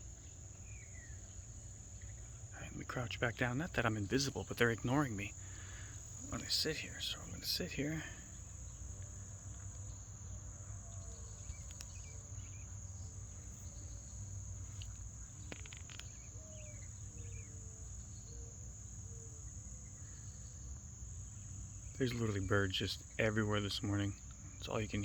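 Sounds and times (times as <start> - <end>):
insect trill: 0.0 - 25.0
small birds chirping: 0.0 - 25.0.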